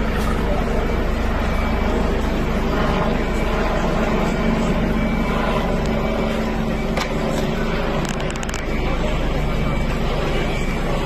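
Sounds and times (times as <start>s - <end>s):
fire engine engines rumbling: 0.0s - 11.0s.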